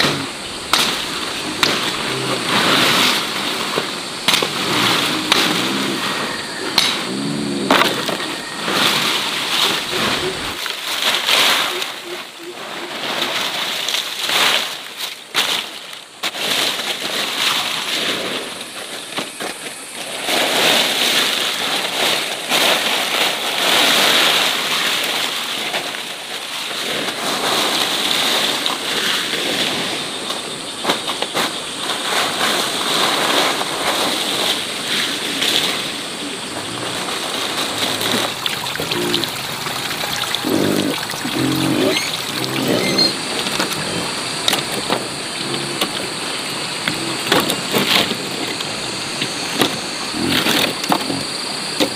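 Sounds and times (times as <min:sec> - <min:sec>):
water splashing and sloshing: 0:00.0 - 0:07.0, 0:07.7 - 0:19.0, 0:20.0 - 0:51.9.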